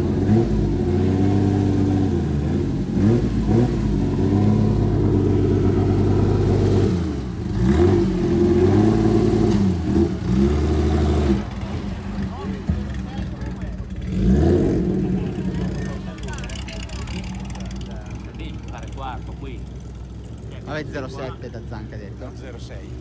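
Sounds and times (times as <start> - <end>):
car engine idling: 0.0 - 23.0
engine throttle blips: 0.0 - 23.0.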